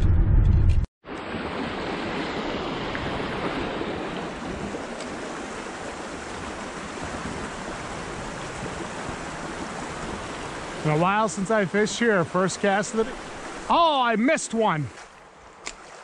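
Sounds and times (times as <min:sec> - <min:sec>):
river running over rocks: 0:01.2 - 0:16.0.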